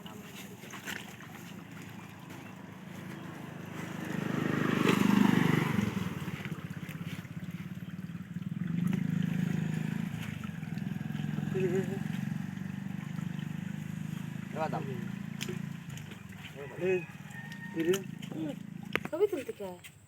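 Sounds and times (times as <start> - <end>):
small engine running: 0.3 - 19.8.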